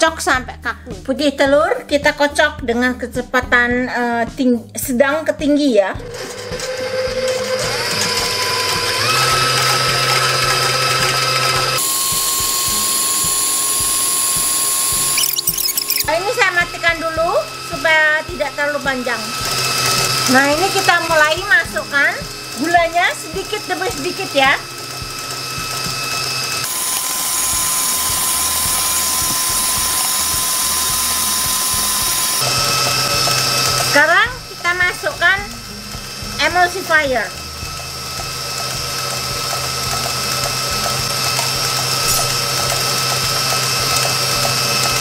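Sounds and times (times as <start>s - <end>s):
stand mixer whisking: 6.0s - 45.0s.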